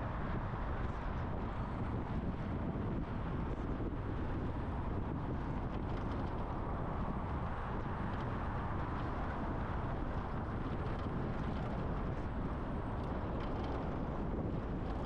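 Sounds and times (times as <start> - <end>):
truck tyre rumble: 0.0 - 15.0
wind noise: 0.0 - 15.0.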